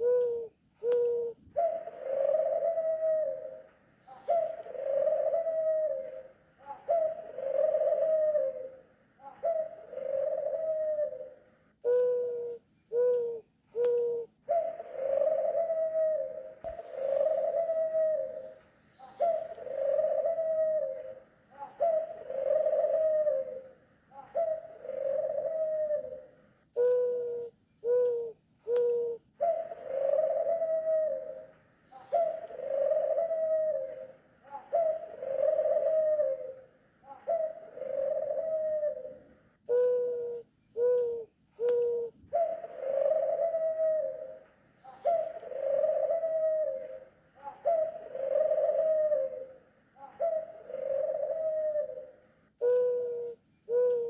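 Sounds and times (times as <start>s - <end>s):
doves calling: 0.0s - 54.0s.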